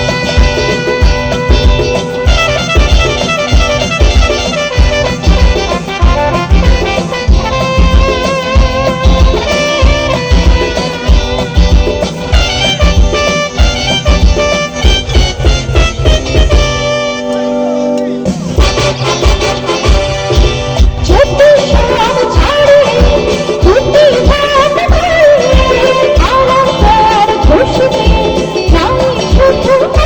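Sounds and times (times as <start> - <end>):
steady drum beat: 0.0 - 17.2, 18.2 - 30.0
reedy instrument melody: 0.0 - 30.0
song over a pa system: 0.0 - 30.0.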